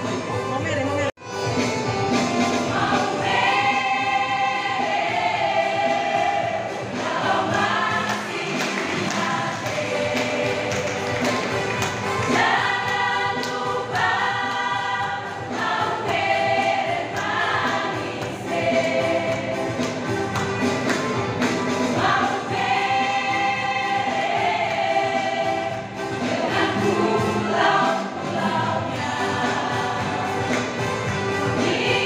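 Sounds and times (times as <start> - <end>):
women's choir singing: 2.6 - 32.0.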